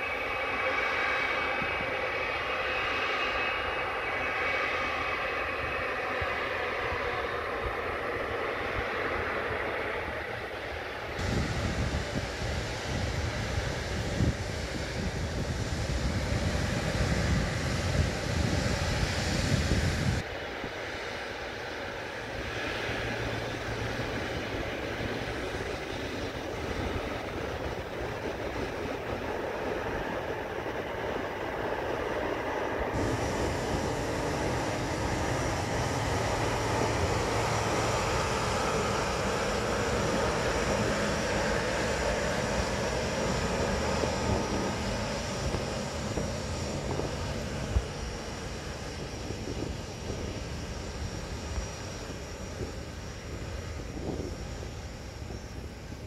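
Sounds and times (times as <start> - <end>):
distant jet engines running: 0.0 - 56.0.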